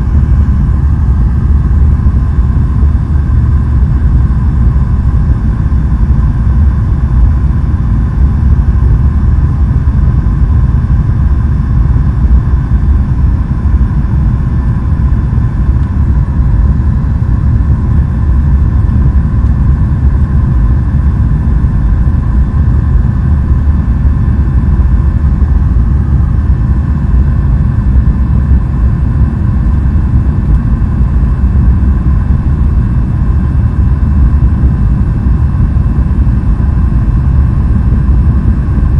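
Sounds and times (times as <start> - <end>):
faint steady hum: 0.0 - 38.9
jet engines rumbling: 0.0 - 38.9.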